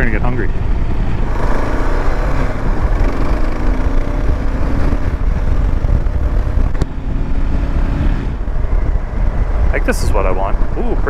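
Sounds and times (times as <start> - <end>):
low rumble: 0.0 - 11.0
motorcycle engine running: 0.0 - 11.0.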